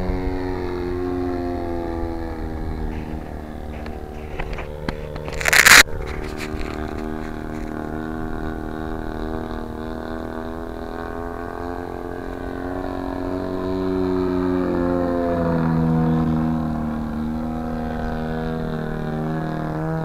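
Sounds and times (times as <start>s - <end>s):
model airplane engine drone: 0.0s - 20.0s.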